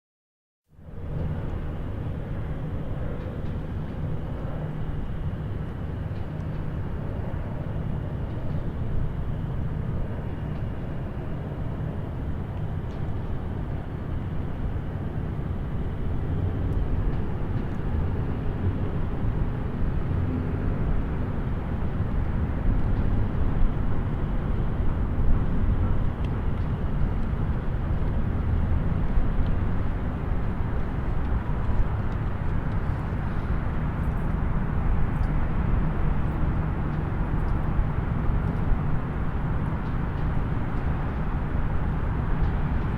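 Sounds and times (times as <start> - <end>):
distant highway traffic rumble: 0.7 - 42.9.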